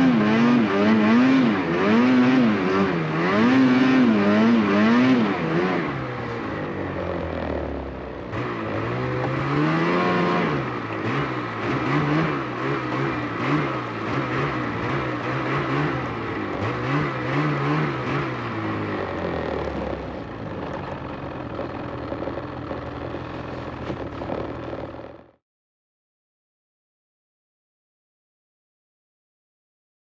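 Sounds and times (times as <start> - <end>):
vehicle engine revving: 0.0 - 25.4.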